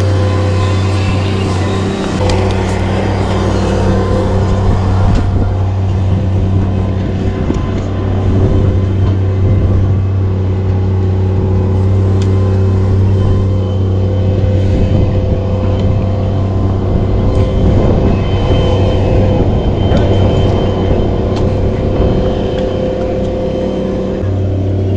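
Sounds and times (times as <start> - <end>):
large engine droning: 0.0 - 24.9.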